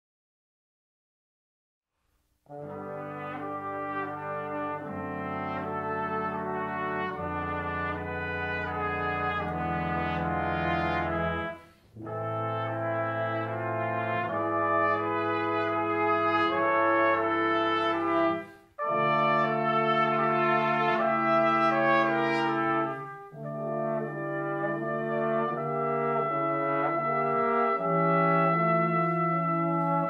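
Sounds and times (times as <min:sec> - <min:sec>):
brass quintet playing chords: 0:02.5 - 0:30.0.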